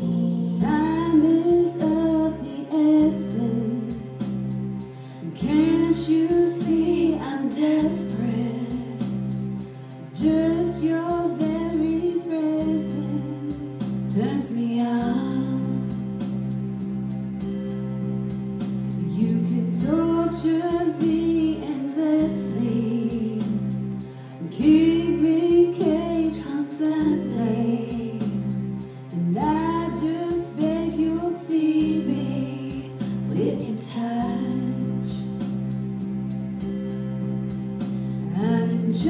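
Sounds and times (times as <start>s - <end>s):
woman singing slow song: 0.0s - 4.6s, 5.2s - 16.1s, 19.0s - 23.8s, 24.4s - 35.5s, 38.2s - 39.0s
instrumental backing: 0.0s - 39.0s.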